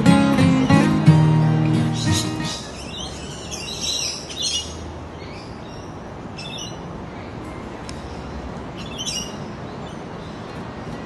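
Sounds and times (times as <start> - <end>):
birds chirping: 0.0 - 11.0
faint outdoor hiss: 0.0 - 11.0.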